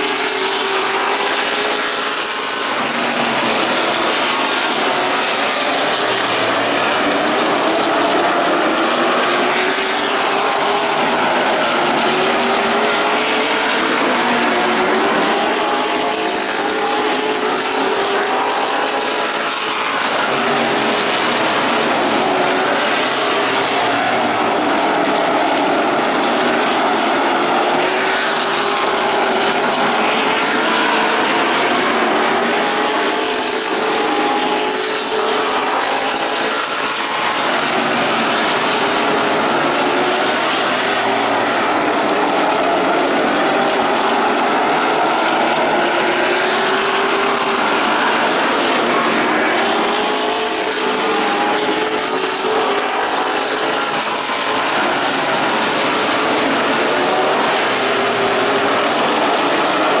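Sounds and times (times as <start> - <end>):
race car engines: 0.0 - 60.0.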